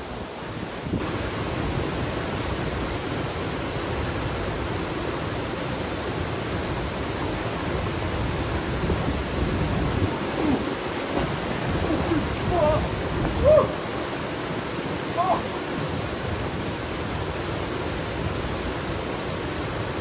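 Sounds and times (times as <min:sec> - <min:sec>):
waterfall rushing: 0:00.2 - 0:20.0.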